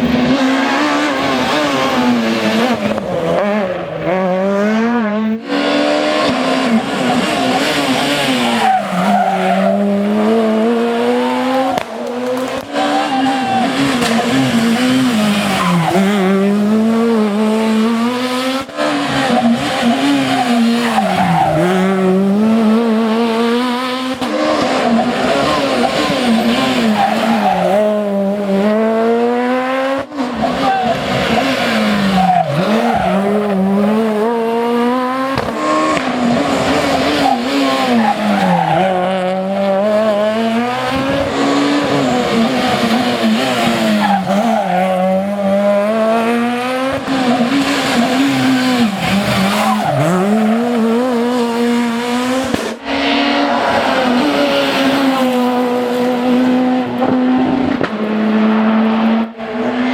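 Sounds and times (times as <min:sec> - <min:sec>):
tyres squealing and skidding: 0:00.0 - 0:18.3, 0:18.9 - 0:28.8, 0:29.8 - 0:55.8
rally car engines revving: 0:00.0 - 0:59.9.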